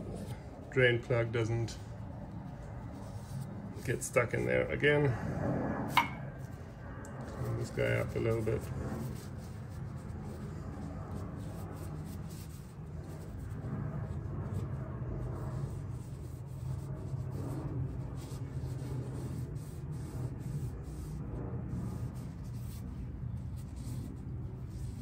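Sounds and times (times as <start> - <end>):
paper towel rubbing: 0.0 - 4.5, 6.3 - 25.0
steady low hum: 0.0 - 25.0.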